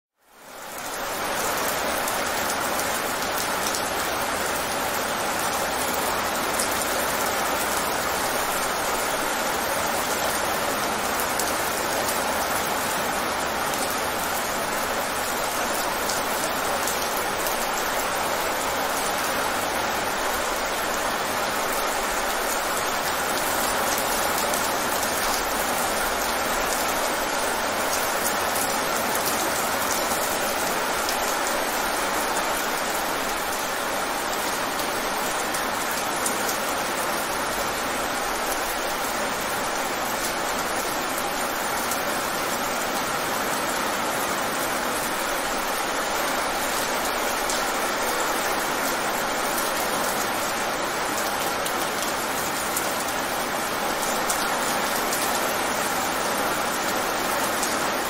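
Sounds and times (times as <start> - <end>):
heavy rain on wet pavement: 0.1 - 58.0.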